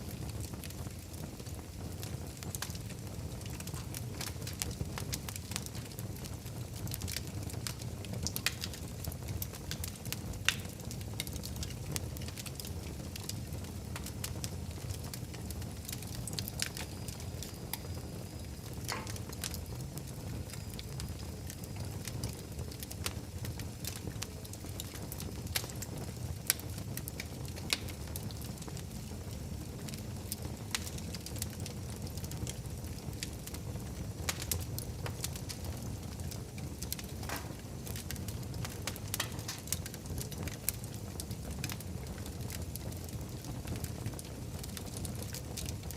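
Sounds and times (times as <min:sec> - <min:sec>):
fireplace fire crackling and popping: 0:00.0 - 0:45.9.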